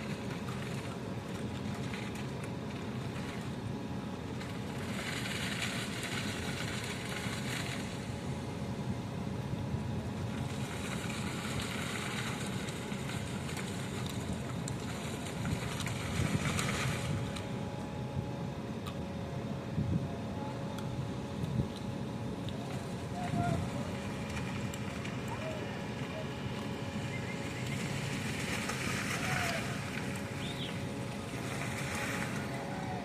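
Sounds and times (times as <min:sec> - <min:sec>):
machine engine running: 0:00.0 - 0:18.1, 0:22.0 - 0:33.0.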